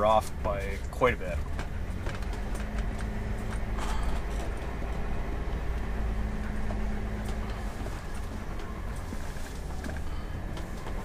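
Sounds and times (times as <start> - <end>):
engine and road rumble: 0.0 - 11.0
light rattles and clicks: 0.0 - 11.0.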